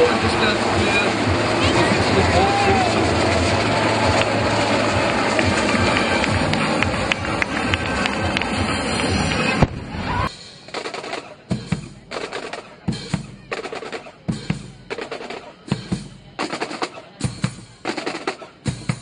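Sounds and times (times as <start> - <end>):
loud rushing noise: 0.0 - 17.0
music with drum beat: 0.0 - 19.0.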